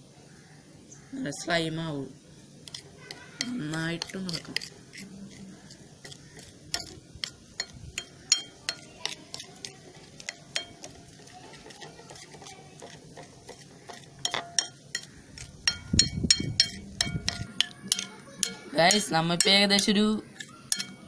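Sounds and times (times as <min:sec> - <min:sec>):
slime being stirred in a bowl: 0:02.6 - 0:21.0
utensil tapping against bowl: 0:02.7 - 0:05.0, 0:06.0 - 0:21.0.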